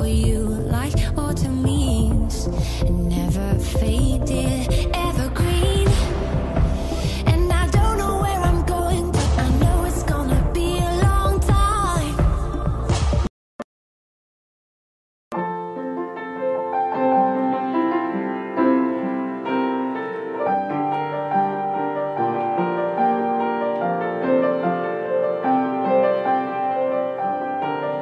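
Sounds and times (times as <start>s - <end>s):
piano music: 0.0s - 13.0s, 15.3s - 28.0s.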